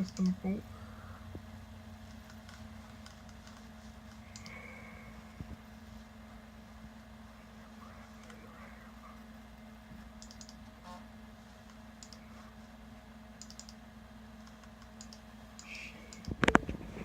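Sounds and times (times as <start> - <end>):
computer humming: 0.0 - 17.0.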